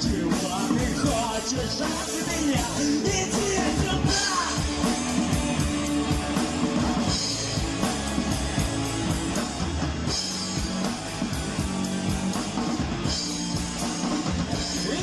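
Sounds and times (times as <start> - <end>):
bass guitar: 0.0 - 15.0
distorted electric guitar: 0.0 - 15.0
drum kit beat: 0.0 - 15.0.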